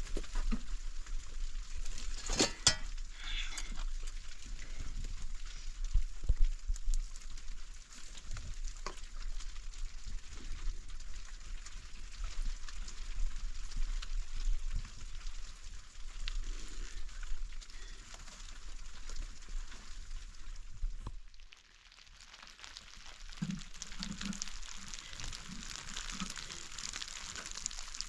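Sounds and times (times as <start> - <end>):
small crackles and clicks: 0.0 - 28.0.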